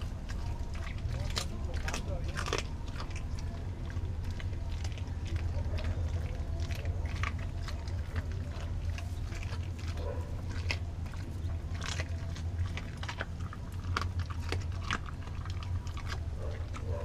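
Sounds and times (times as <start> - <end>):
dog chewing raw meat: 0.0 - 17.0.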